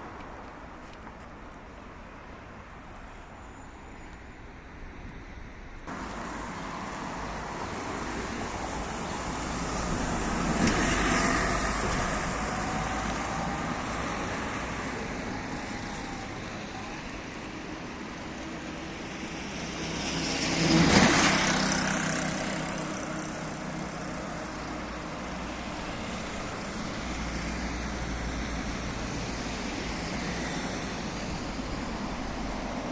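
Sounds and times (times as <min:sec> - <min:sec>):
vehicles passing close by: 0:05.4 - 0:32.9.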